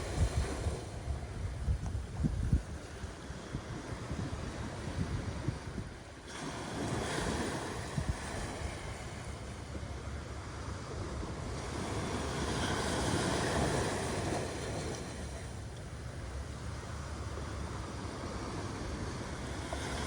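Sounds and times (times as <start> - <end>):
ocean surf washing onto beach: 0.0 - 20.0
wind rumble on microphone: 0.0 - 20.0.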